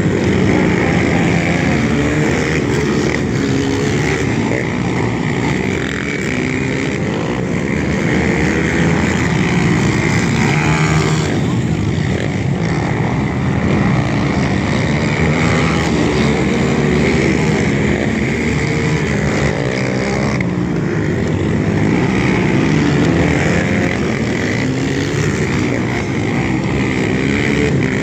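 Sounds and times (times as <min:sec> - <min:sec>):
racing quad engines revving: 0:00.0 - 0:28.0.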